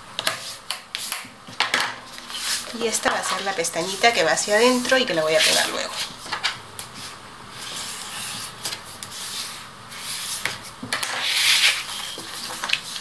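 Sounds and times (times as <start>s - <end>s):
cardstock sliding and scraping: 2.1s - 13.0s
paper rustle: 2.1s - 13.0s.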